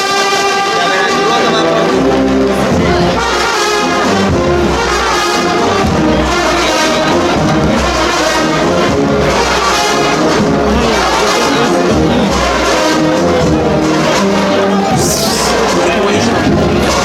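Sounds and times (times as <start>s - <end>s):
brass band playing a march: 0.0s - 17.0s.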